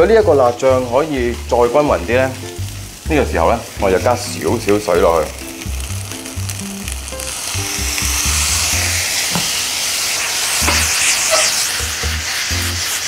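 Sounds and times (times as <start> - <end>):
water sizzling in a hot wok: 0.0 - 13.0.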